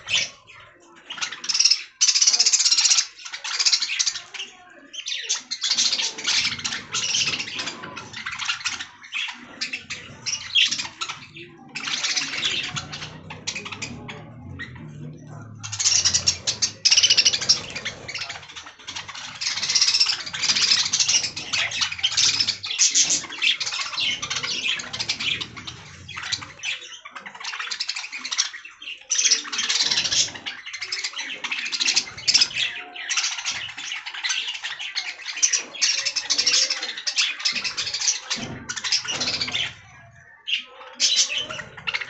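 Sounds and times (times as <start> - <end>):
budgerigars chattering and chirping: 0.0 - 42.0.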